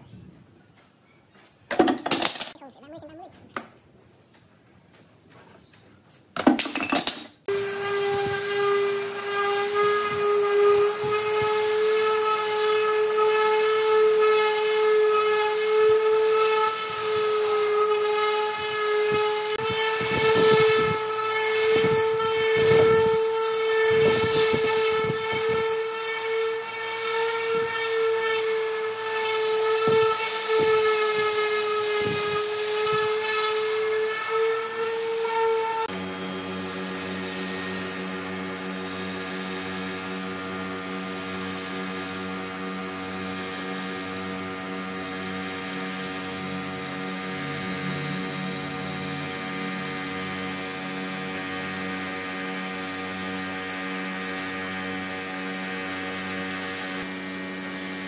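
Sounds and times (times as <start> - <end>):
electric sander whining on wood: 7.5 - 58.0.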